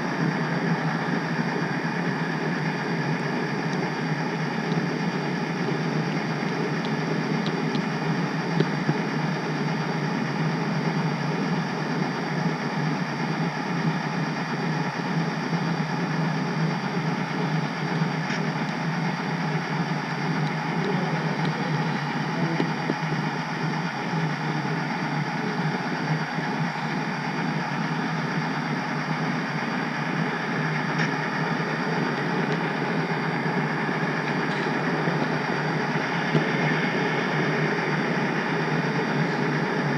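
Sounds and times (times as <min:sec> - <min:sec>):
model train whir and rumble: 0:00.0 - 0:39.9.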